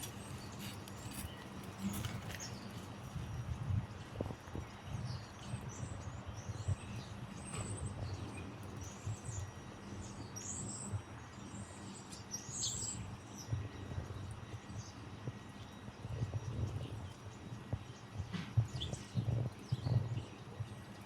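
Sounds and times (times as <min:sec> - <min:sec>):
small birds chirping: 0:00.0 - 0:03.0, 0:04.6 - 0:21.0.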